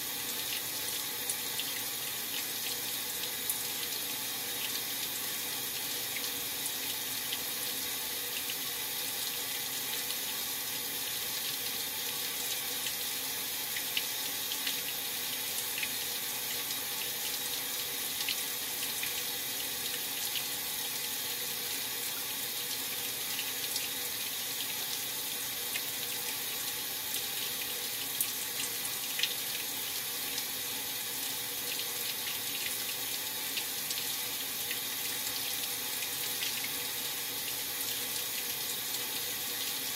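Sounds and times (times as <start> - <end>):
water rushing into washer tub: 0.0 - 39.9.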